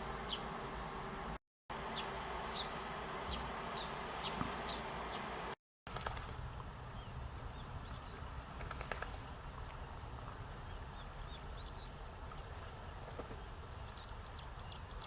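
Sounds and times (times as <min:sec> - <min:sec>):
sparrows chirping: 0:00.0 - 0:01.1, 0:01.8 - 0:05.4, 0:06.9 - 0:15.0.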